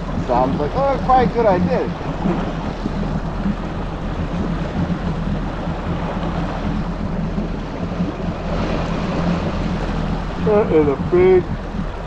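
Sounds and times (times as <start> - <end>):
jet ski engine humming: 0.0 - 12.0
water noise: 0.0 - 12.0
wind noise: 0.0 - 12.0.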